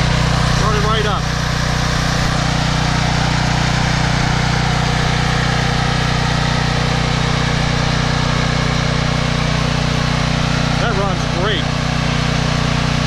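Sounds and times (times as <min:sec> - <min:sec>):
generator engine running steadily: 0:00.0 - 0:13.0.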